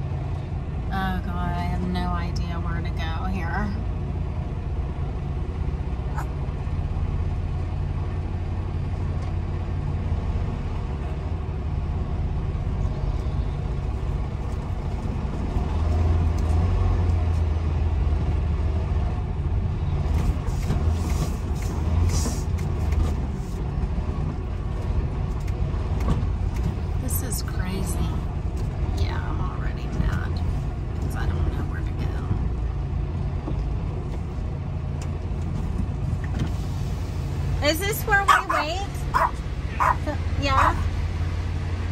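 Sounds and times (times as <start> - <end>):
truck engine rumble: 0.0 - 41.9.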